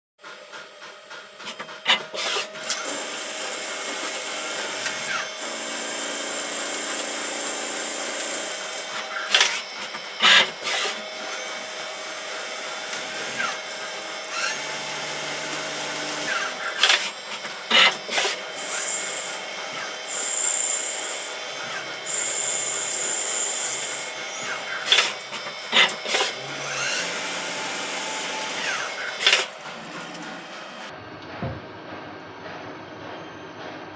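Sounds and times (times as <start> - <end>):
machine cutting and spindle hum: 1.0 - 33.9.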